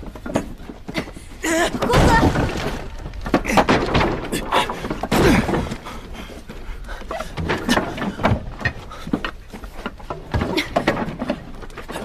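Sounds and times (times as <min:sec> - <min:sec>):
sharp knocks and thuds: 0:00.0 - 0:12.0.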